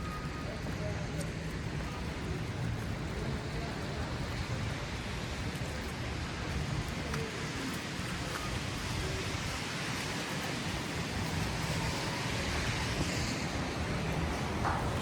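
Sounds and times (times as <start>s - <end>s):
tyres on slushy road: 0.0s - 15.0s
wind: 0.0s - 15.0s.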